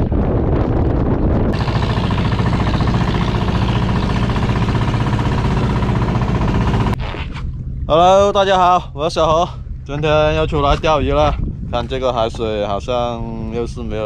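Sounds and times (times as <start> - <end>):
boat engine running steadily: 0.0 - 14.0
wind buffeting microphone: 0.0 - 14.0.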